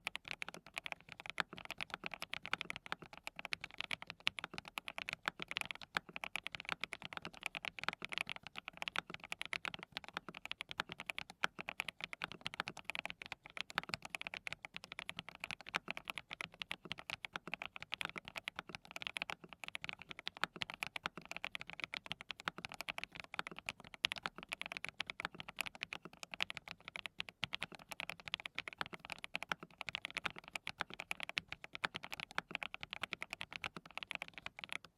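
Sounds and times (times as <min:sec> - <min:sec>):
rapid mechanical keyboard typing: 0:00.0 - 0:34.9.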